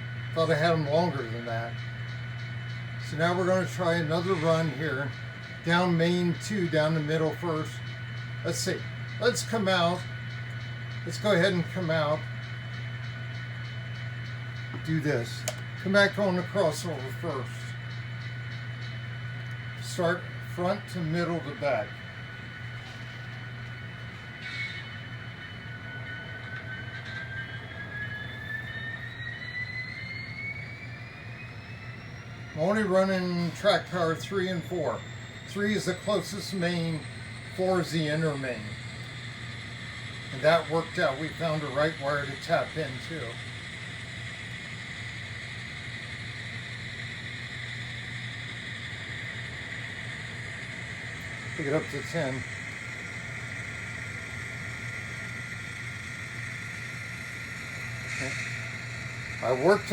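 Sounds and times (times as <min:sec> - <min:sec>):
model locomotive humming: 0:00.0 - 0:59.9
thin motor whine: 0:00.0 - 0:59.9.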